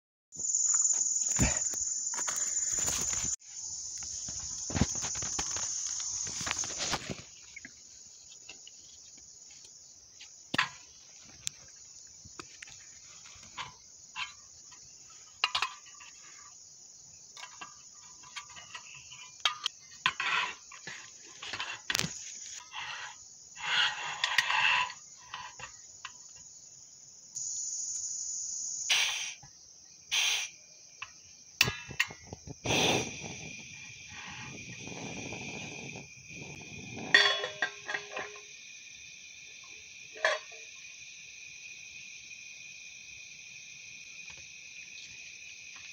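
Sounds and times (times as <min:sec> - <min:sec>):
crickets chirring: 0:00.4 - 0:45.9.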